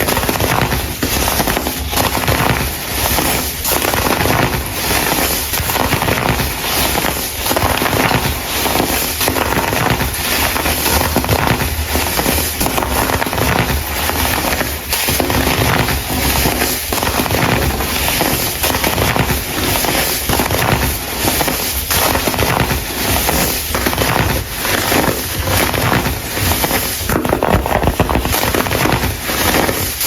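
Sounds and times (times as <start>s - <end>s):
baking soda crumble crunching: 0.0s - 30.0s.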